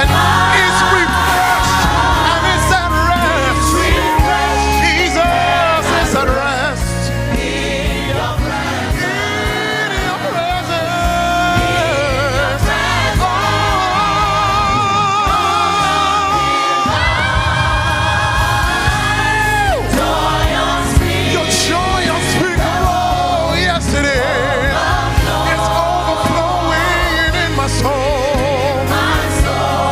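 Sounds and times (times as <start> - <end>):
band accompaniment: 0.0 - 29.9
choir singing with vibrato: 0.0 - 29.9.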